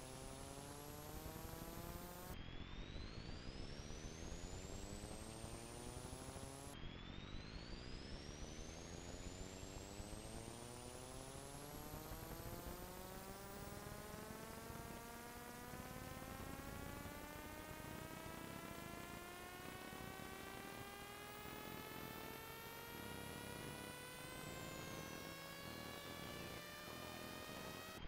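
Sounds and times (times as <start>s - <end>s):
electrical hum with rising pitch: 0.0s - 28.0s.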